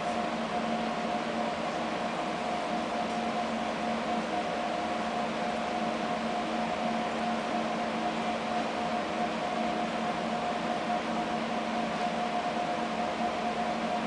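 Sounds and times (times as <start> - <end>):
fan humming with hiss: 0.0 - 14.0.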